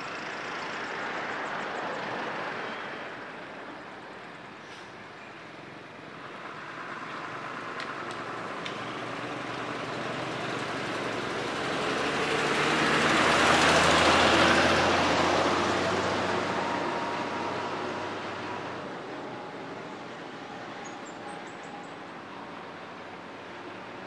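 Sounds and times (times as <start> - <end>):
truck driving past: 0.0 - 5.2, 6.0 - 24.0.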